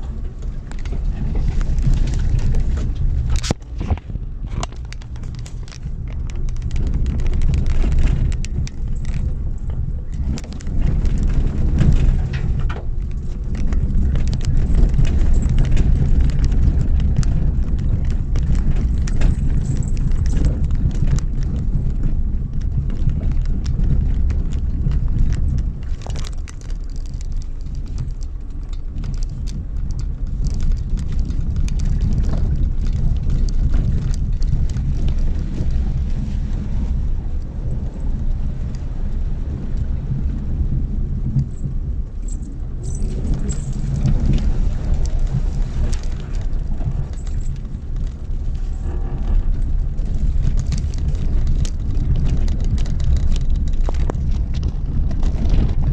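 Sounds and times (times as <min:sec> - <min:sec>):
car engine and tyres rumbling: 0:00.0 - 0:55.9
stones crackling underneath: 0:00.0 - 0:55.9.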